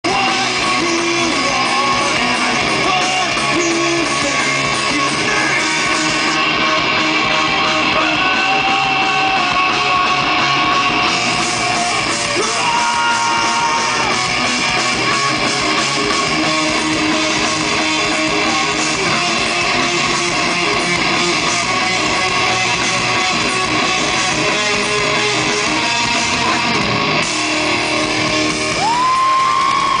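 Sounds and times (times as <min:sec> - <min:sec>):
drum kit: 0:00.0 - 0:30.0
electric guitars: 0:00.0 - 0:30.0.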